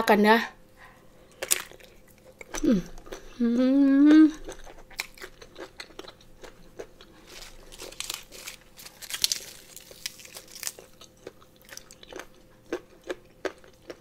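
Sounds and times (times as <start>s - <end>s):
chewing crunchy food: 0.9s - 3.4s, 4.1s - 14.0s.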